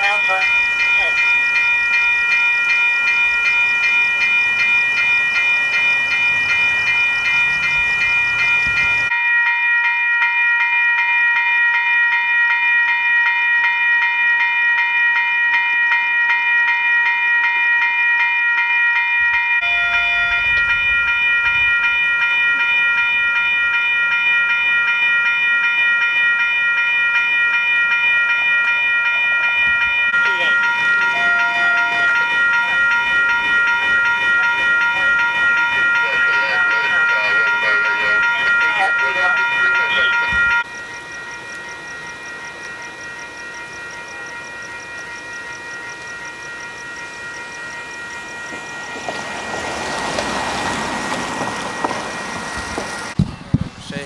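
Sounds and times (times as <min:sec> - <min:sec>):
railroad crossing bell ringing: 0:00.0 - 0:54.0.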